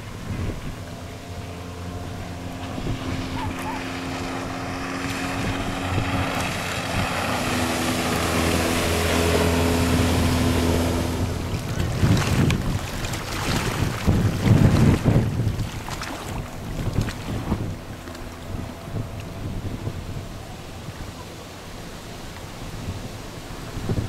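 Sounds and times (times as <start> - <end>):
outboard motor running: 0.0 - 24.0
water noise: 0.0 - 24.0
wind: 0.0 - 24.0.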